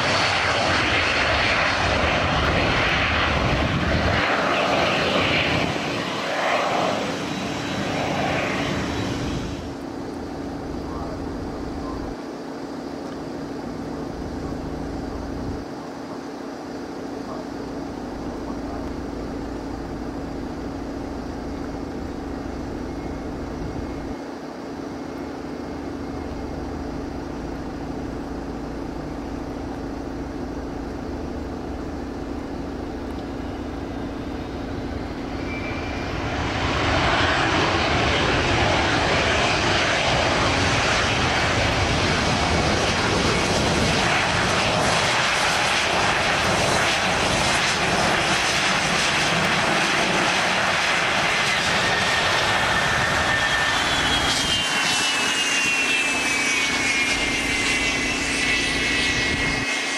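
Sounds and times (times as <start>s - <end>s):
high whine falling in pitch: 0.0s - 59.9s
jet engines roaring: 0.0s - 59.9s.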